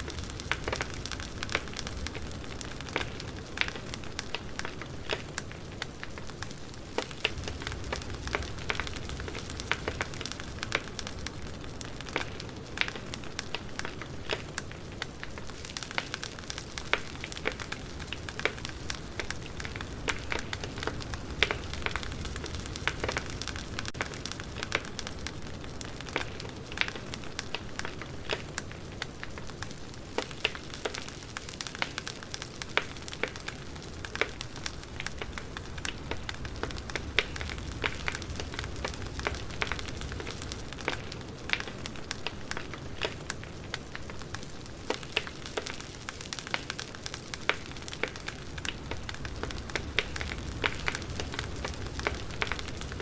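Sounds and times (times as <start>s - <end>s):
campfire crackling: 0.0s - 53.0s
rush of burning flames: 0.0s - 53.0s.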